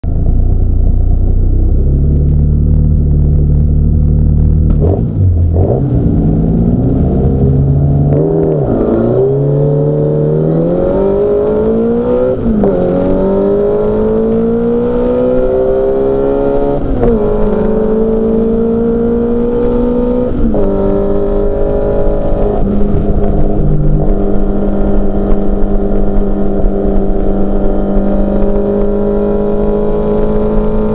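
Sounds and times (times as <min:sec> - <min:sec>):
race car engine accelerating: 0:01.6 - 0:30.9.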